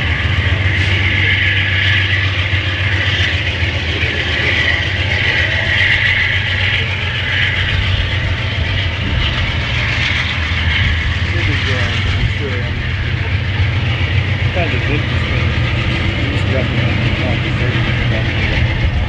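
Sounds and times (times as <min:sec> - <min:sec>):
train wheels rumbling and clacking: 0:00.0 - 0:19.0.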